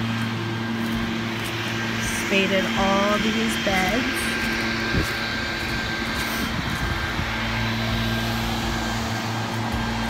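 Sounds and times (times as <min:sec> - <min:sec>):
engine droning hum: 0:00.0 - 0:10.0.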